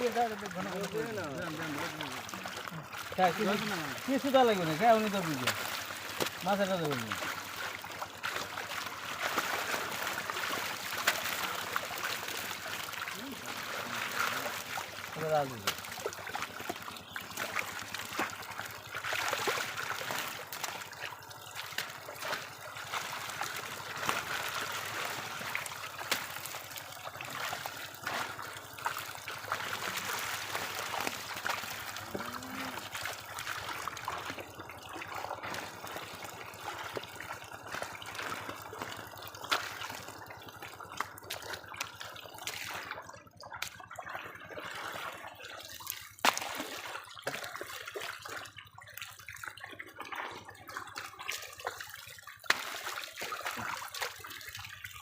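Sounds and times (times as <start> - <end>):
river water splashing: 0.0 - 55.0.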